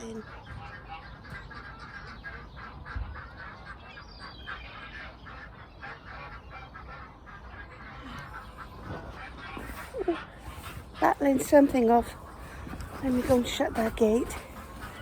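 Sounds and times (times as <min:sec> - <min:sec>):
ducks quacking: 0:00.0 - 0:15.0
geese honking: 0:00.0 - 0:15.0.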